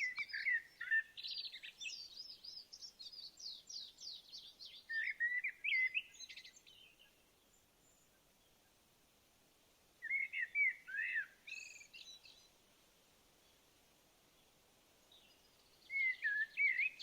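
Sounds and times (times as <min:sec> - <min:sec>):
small birds singing: 0:00.0 - 0:08.9, 0:10.0 - 0:12.6, 0:13.4 - 0:17.0.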